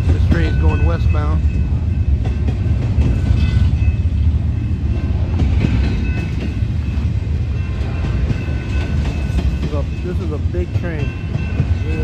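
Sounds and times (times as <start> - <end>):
freight train wheels rumbling: 0.0 - 12.0
train cars clattering on track: 0.0 - 12.0.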